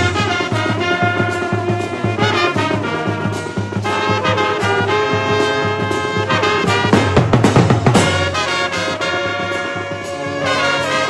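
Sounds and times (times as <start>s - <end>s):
brass band playing: 0.0s - 11.0s
steady drum beat: 0.0s - 11.0s.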